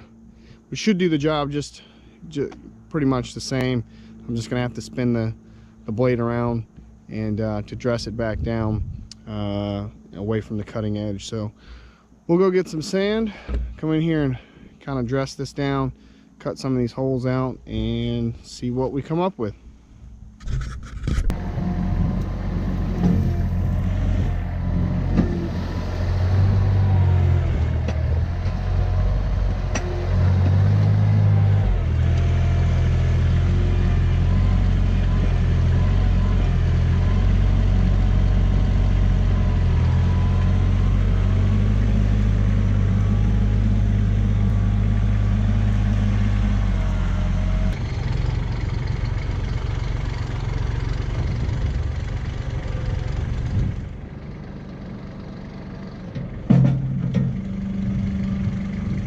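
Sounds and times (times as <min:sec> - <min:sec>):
tractor diesel engine droning: 0:00.0 - 0:20.4, 0:21.2 - 0:59.0.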